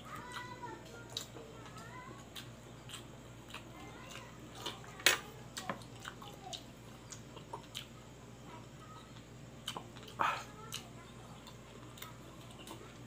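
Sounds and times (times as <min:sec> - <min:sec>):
person chewing: 0:00.1 - 0:08.0, 0:09.0 - 0:13.0.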